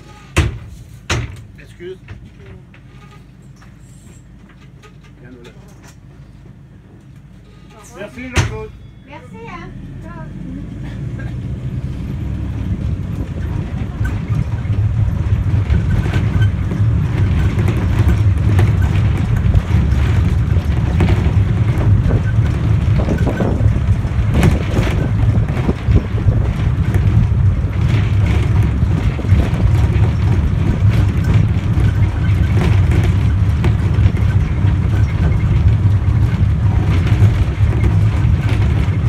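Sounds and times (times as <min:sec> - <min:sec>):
train knocks and rattles: 0:00.0 - 0:39.0
train rumbling: 0:00.0 - 0:39.0.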